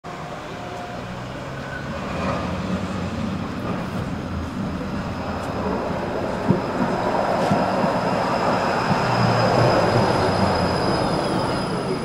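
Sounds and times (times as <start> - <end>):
street traffic: 0.0 - 12.0
tram running hum: 0.1 - 12.0.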